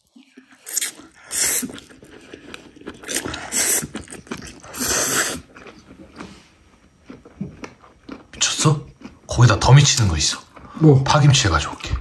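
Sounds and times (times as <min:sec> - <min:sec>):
chewing food: 0:00.0 - 0:10.9.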